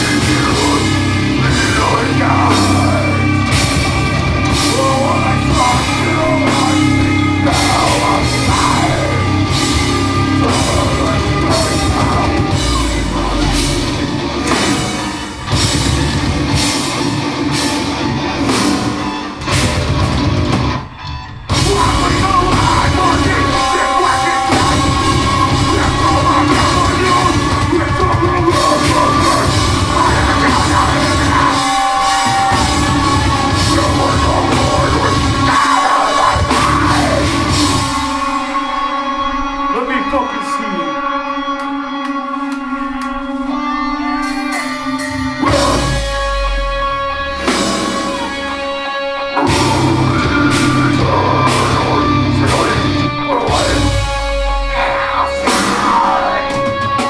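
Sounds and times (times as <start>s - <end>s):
person singing into a microphone: 0.0s - 15.1s, 21.6s - 57.0s
drum kit: 0.0s - 39.5s, 41.6s - 57.0s
bass guitar: 0.0s - 57.0s
distorted guitars: 0.0s - 57.0s.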